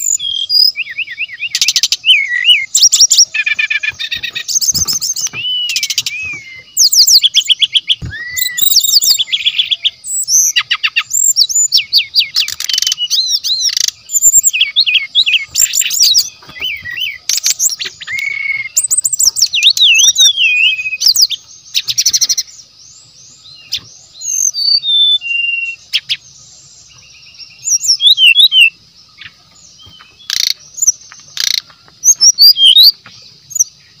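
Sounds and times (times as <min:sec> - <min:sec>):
bird singing trills and whistles: 0:00.0 - 0:34.0.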